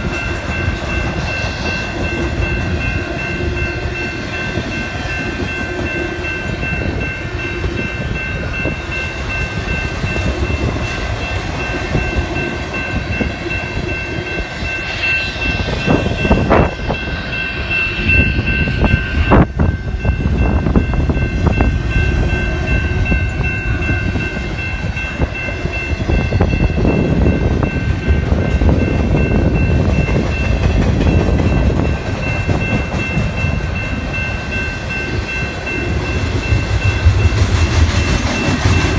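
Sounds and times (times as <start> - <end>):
crossing warning bell ringing: 0.0 - 38.9
loud train clanks: 0.0 - 38.9
train cars rumbling over rails: 0.0 - 38.9.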